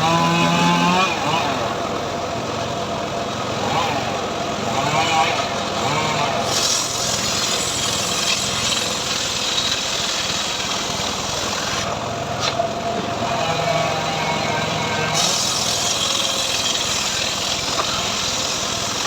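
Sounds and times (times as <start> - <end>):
engine-driven sawmill running: 0.0 - 19.0.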